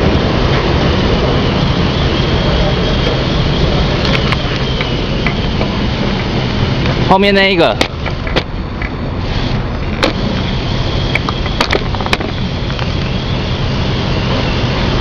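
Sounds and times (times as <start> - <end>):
water jet hissing on van: 0.0 - 15.0.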